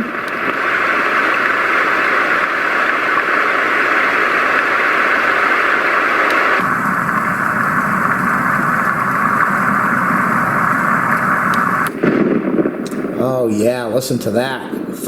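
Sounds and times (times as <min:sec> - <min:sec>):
lower-pitched noise track: 0:00.0 - 0:13.4
white noise machine rain hiss: 0:00.0 - 0:15.0.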